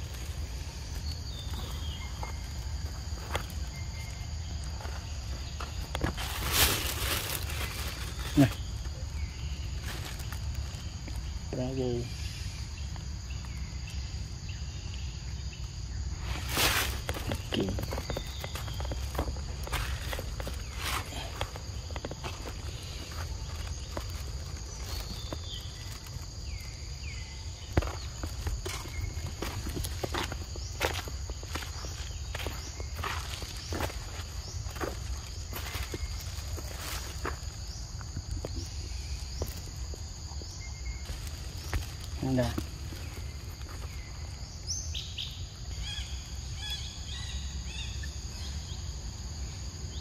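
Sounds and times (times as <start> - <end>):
footsteps on leafy dirt path: 0.0 - 11.6, 16.1 - 45.2
insects chirring: 0.0 - 50.0
rustle: 0.0 - 50.0.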